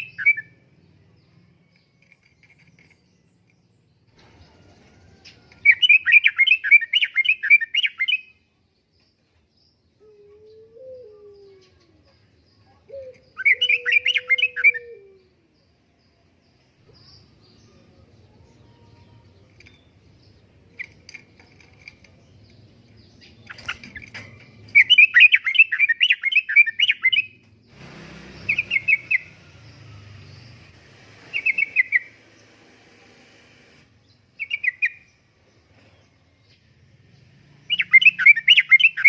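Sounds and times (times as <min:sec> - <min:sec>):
bird chirping and warbling: 0:00.0 - 0:39.0.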